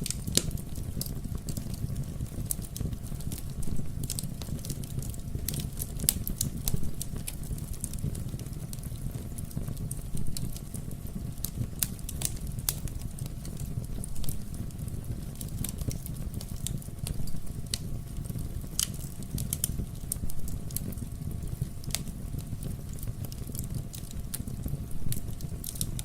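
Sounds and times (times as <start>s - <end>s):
low rumble of burning logs: 0.0s - 26.0s
wood fire crackling: 0.0s - 26.0s.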